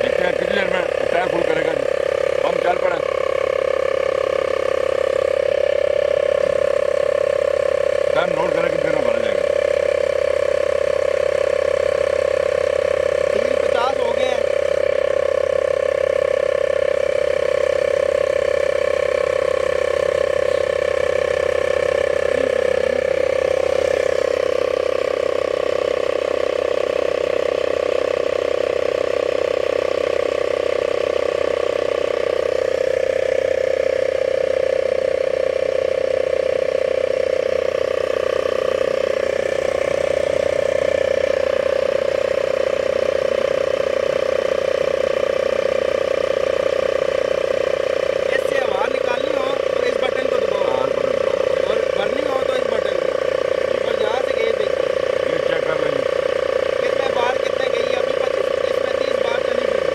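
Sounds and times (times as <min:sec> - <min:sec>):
tyre inflator humming: 0:00.0 - 0:59.9.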